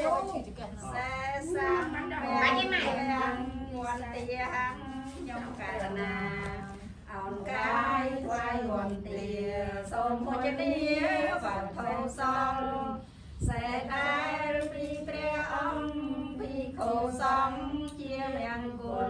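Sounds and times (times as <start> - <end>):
women chanting in unison: 0.8 - 19.0.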